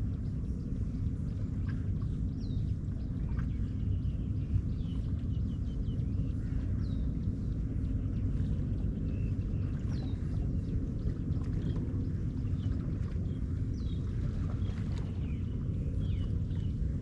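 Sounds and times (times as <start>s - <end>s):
low rumble: 0.0s - 17.0s
birds chirping: 2.1s - 16.9s.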